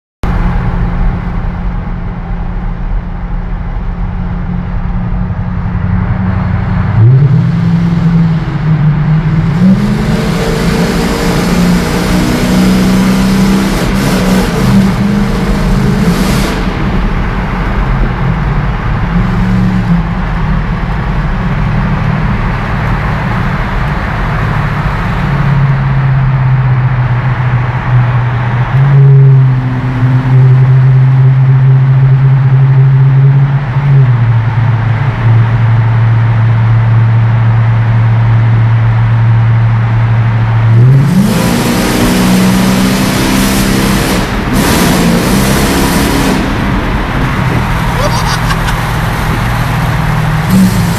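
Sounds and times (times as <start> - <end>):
car engine droning: 0.2 - 50.9.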